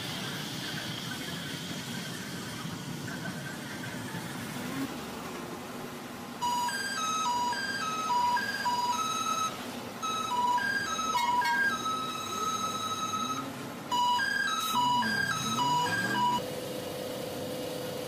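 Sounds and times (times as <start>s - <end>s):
street and train noise: 0.0s - 18.0s.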